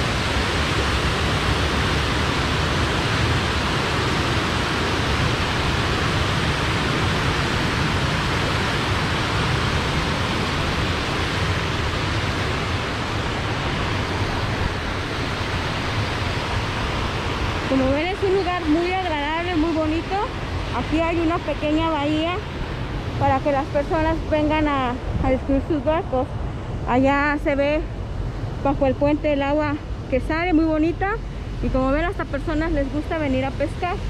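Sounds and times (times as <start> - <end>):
water rushing over weir: 0.0 - 34.0.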